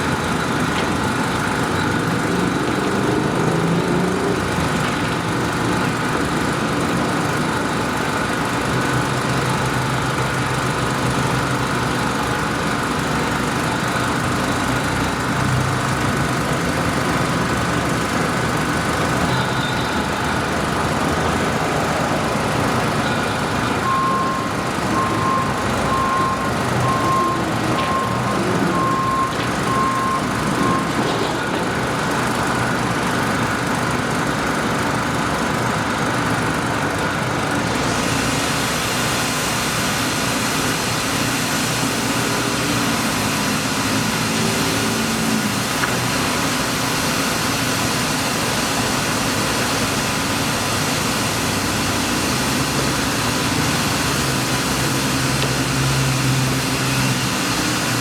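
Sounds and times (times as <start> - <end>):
engine and traffic rumble: 0.0 - 58.0.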